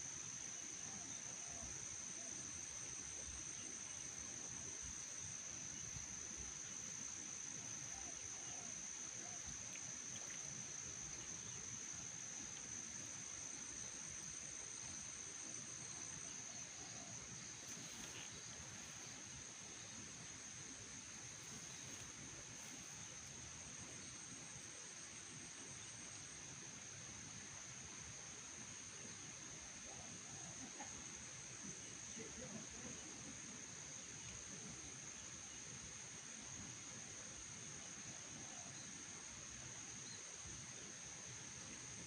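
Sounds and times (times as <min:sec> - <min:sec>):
faint pulsing insect trill: 0:00.0 - 0:42.0
low background hiss: 0:00.0 - 0:42.0.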